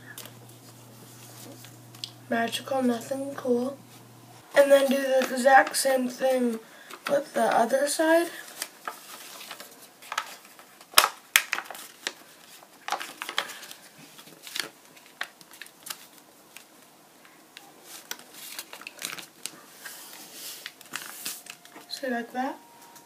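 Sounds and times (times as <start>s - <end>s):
paper rustling and creasing: 0.1s - 2.1s, 2.8s - 22.2s.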